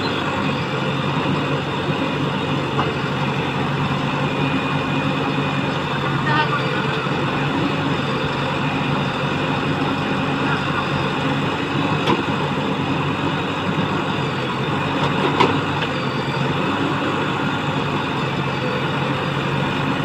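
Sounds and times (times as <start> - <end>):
diesel machinery engine running: 0.0 - 20.0.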